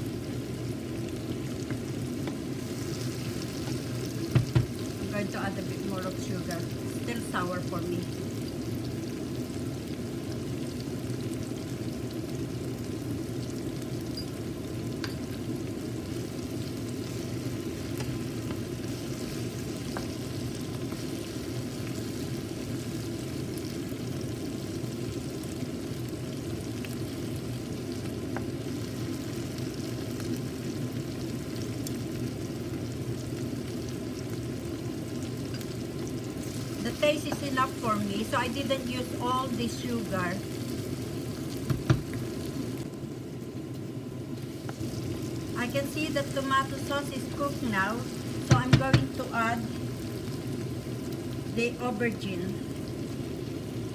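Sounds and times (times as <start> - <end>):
sauce sizzling in oil: 0.0 - 53.9.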